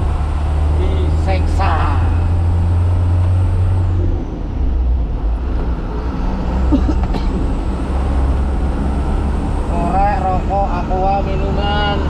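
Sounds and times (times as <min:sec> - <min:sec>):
large vehicle engine drone: 0:00.0 - 0:12.0.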